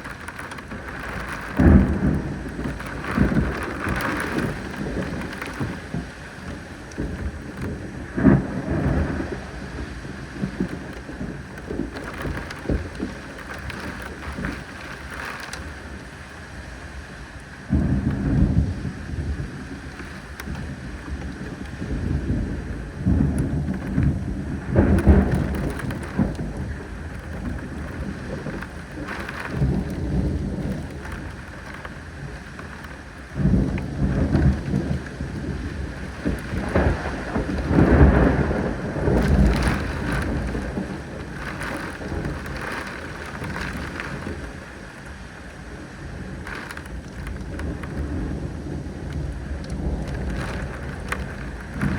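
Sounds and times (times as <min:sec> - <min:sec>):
steady rain: 0:00.0 - 0:51.9
thunder rumbling: 0:00.0 - 0:51.9.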